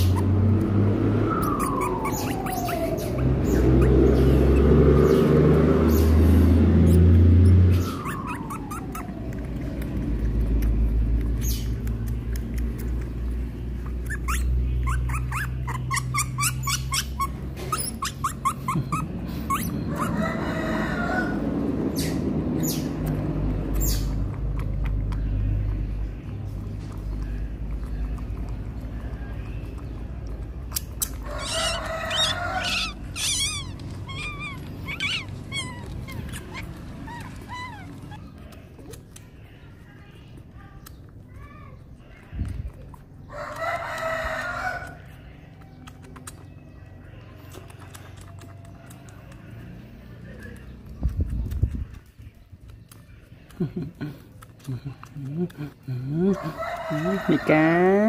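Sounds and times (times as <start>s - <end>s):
otter pup squeaking: 0.0s - 21.3s, 21.9s - 39.8s, 40.4s - 57.5s.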